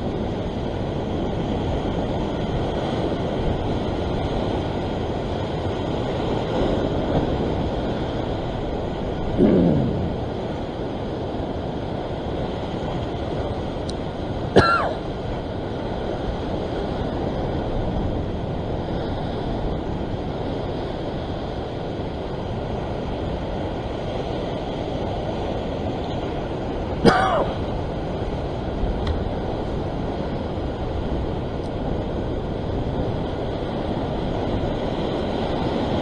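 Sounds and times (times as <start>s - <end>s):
ocean surf on rocks: 0.0s - 36.0s.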